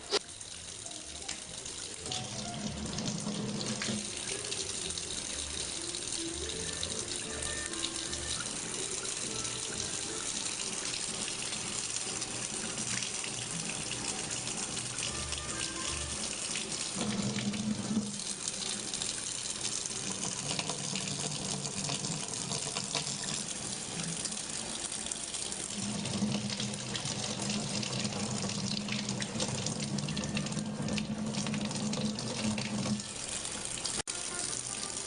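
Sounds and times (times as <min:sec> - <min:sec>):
water running: 0:00.0 - 0:35.0.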